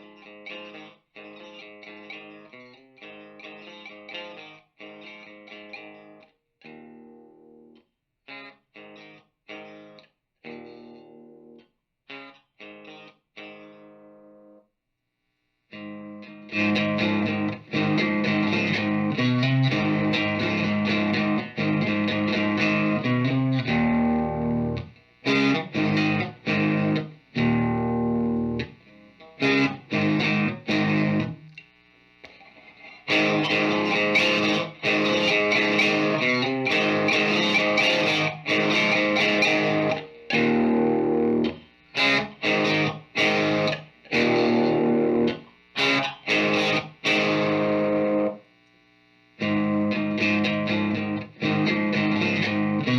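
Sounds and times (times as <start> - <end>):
distorted electric guitar: 0.0 - 14.6, 15.7 - 52.9.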